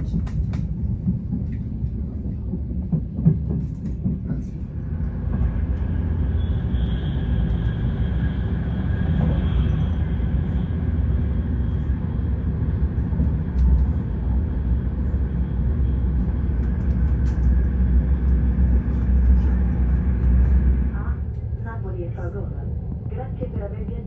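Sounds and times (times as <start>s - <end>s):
train rumble from inside coach: 0.0s - 24.0s.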